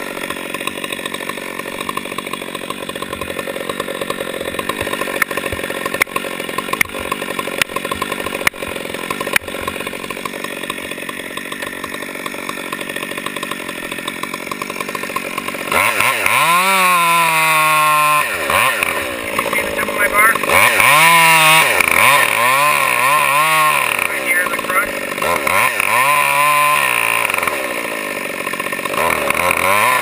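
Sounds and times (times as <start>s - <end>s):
chainsaw cutting tree trunk: 0.0s - 30.0s
chainsaw idling and revving: 0.0s - 30.0s.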